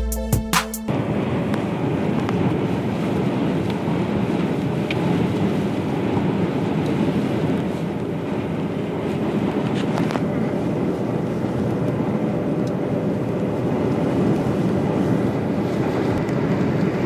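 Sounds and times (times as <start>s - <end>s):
wind: 0.9s - 17.0s.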